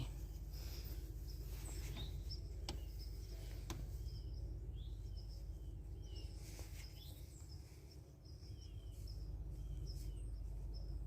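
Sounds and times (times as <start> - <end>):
birds chirping: 0.0 - 11.0
low steady rumble: 0.0 - 11.0.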